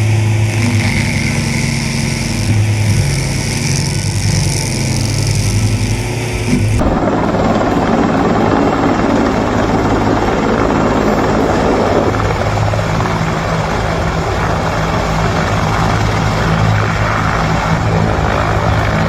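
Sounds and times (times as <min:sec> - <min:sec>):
helicopter hovering close: 0:00.0 - 0:19.0.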